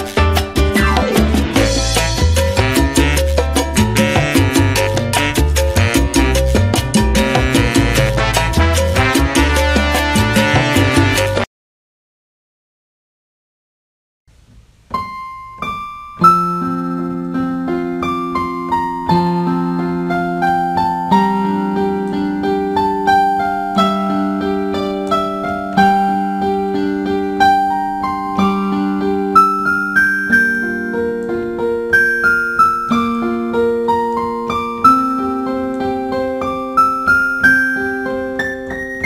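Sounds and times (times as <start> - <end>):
solo piano-like keyboard melody: 0.0 - 11.5, 14.8 - 39.0.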